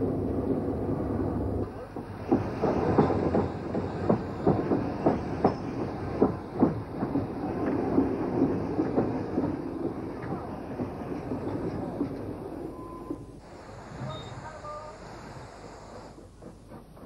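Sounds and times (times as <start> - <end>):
sharp clacks of train: 0.0 - 17.0
train running: 0.0 - 17.0.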